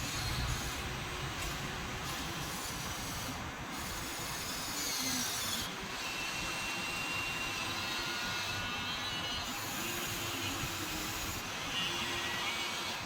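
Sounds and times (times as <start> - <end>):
small electric motors whirring: 0.0 - 13.0.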